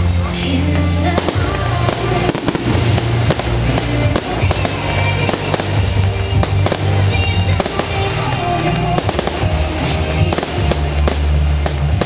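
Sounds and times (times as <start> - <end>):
loud music with heavy bass: 0.0 - 12.0
fireworks bangs and crackles: 0.1 - 12.0.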